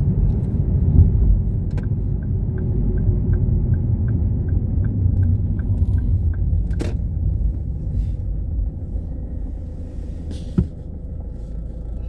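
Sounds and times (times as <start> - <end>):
road and engine rumble: 0.0 - 12.0
turn signal ticking: 1.7 - 12.0.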